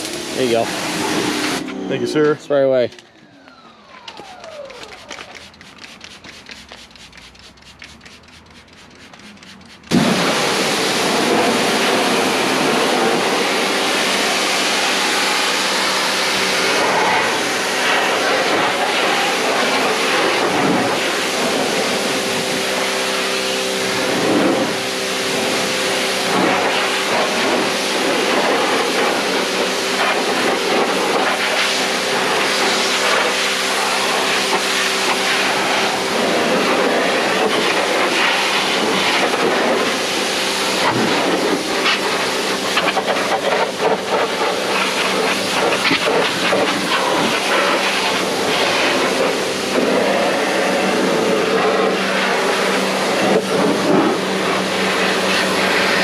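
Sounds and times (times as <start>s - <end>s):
pressure washer machine hum: 0.0s - 56.0s.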